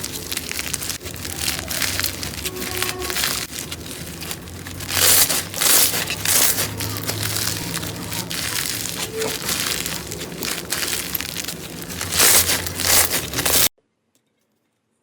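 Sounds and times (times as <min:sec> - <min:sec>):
crunchy slime crackling: 0:00.0 - 0:13.7.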